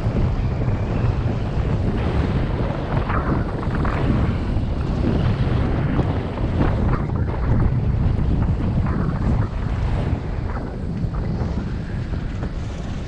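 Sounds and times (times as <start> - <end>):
skis sliding over packed snow: 0.0 - 13.0
wind buffeting microphone: 0.0 - 13.0.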